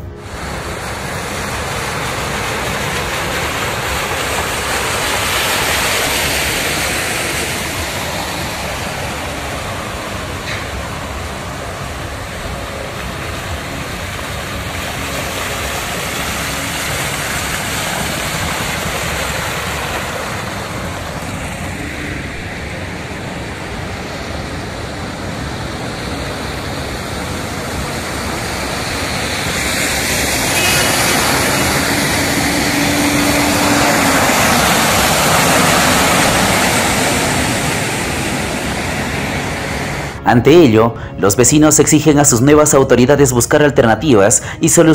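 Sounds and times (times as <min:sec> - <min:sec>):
tyres splashing through floodwater: 0:00.0 - 0:40.2.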